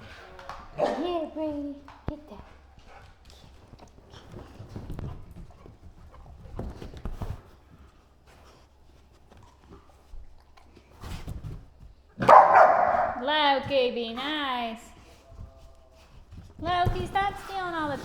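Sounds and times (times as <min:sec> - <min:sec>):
dogs scrambling on floor: 0:00.0 - 0:18.0.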